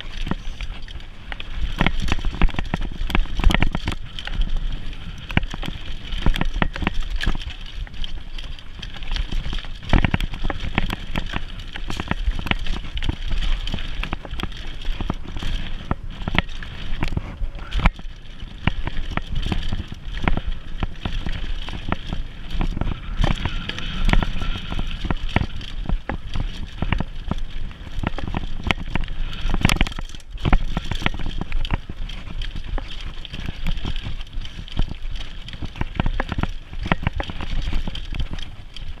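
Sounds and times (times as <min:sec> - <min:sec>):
bike rattling over bumps: 0:00.0 - 0:39.0
bike tyres rolling over dirt: 0:00.0 - 0:39.0.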